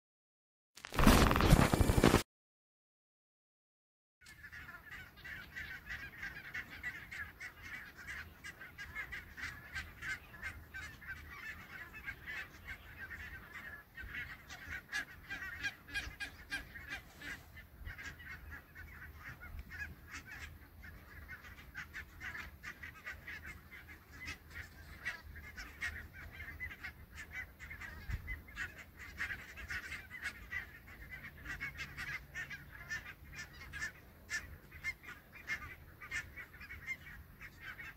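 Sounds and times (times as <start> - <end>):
flock of geese calling: 4.2 - 37.9.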